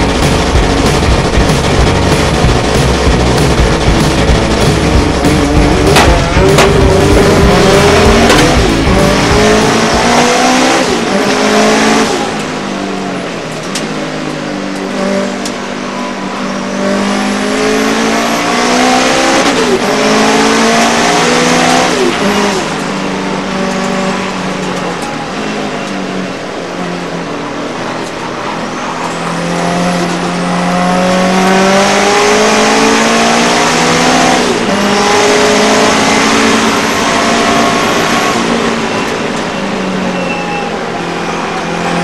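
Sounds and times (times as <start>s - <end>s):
racing car engine revving: 0.0s - 42.0s.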